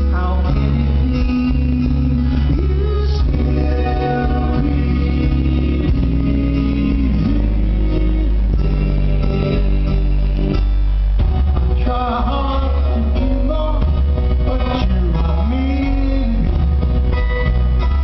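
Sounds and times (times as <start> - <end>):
person singing: 0.0 - 10.7, 11.7 - 16.8
live rock band playing: 0.0 - 18.0.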